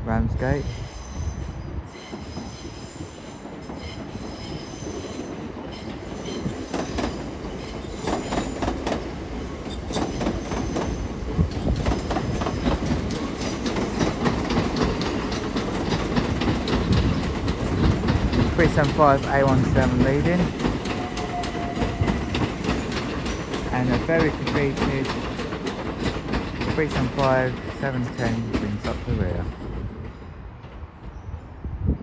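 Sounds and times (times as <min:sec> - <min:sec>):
electric train pulling in: 0:00.6 - 0:31.6
wheels clicking over rail joints: 0:04.9 - 0:31.2.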